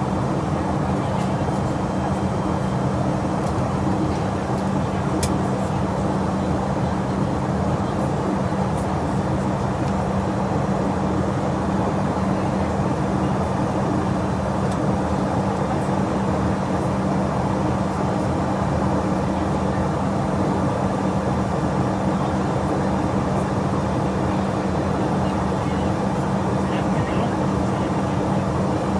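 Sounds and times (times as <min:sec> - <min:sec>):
jet engine and airflow in cabin: 0:00.0 - 0:28.9.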